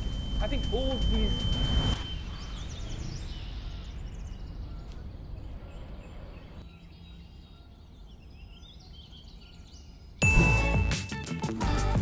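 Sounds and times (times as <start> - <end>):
faint bird chirps: 0.0 - 10.7.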